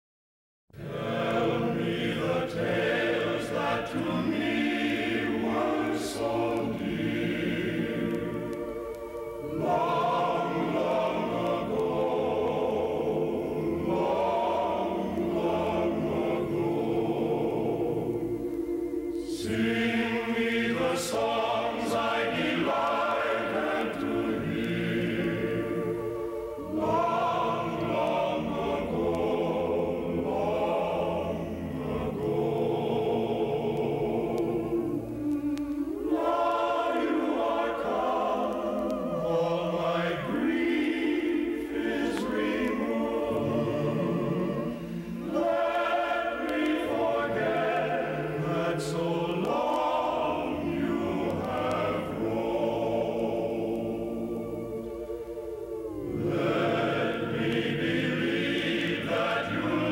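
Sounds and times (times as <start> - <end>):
choir singing: 0.8 - 59.9.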